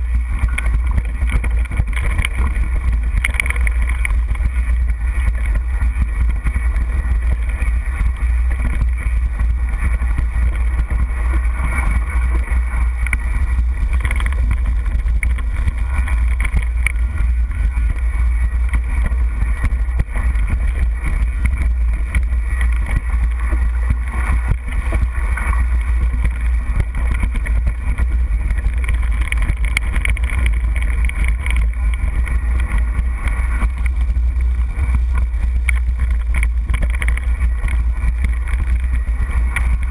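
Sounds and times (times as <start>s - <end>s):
bike rattling over rocky trail: 0.0s - 39.9s
wind buffeting microphone: 0.0s - 39.9s.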